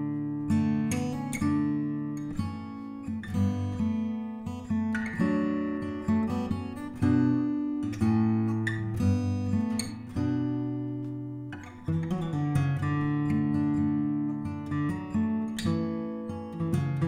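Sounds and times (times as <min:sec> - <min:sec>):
acoustic guitar plucking: 0:00.0 - 0:17.0.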